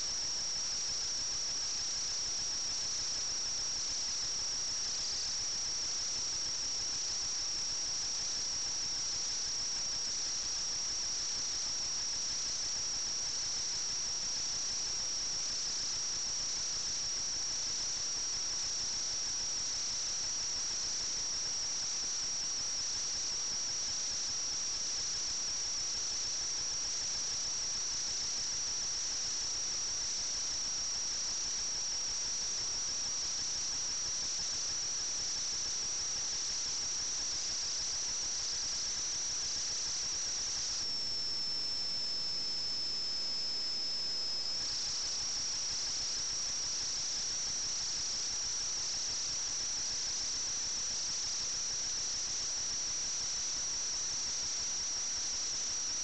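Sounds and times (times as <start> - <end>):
constant hiss: 0.0 - 56.0.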